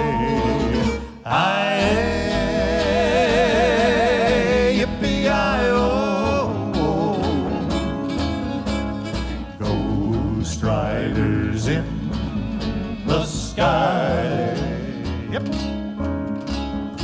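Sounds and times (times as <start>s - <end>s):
vocal group singing in harmony: 0.0s - 8.3s, 9.5s - 15.9s
country band with guitar: 0.0s - 17.0s.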